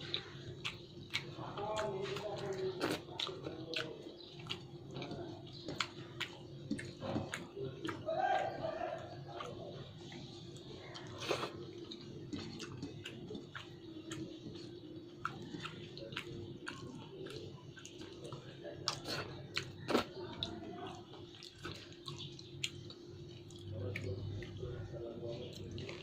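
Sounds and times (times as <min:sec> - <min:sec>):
chewing and wet mouth noises: 0:00.0 - 0:26.0.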